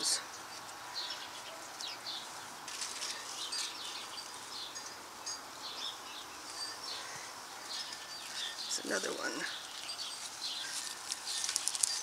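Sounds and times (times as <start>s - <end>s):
faint outdoor background noise: 0.0s - 12.0s
small birds chirping: 0.0s - 12.0s.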